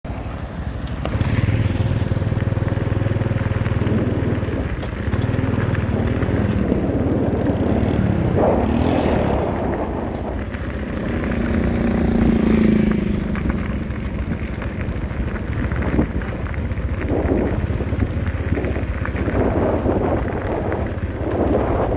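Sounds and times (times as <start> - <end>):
diesel machinery engines running: 1.1 - 21.9.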